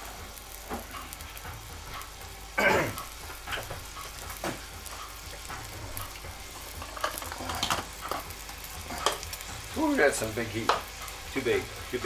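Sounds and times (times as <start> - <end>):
bacon sizzling in a pot: 0.0 - 12.0.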